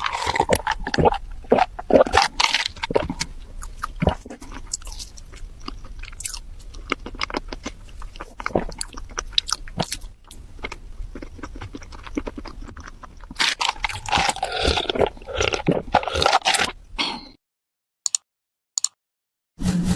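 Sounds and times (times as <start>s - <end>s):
crunching and chewing food: 0.0s - 17.0s.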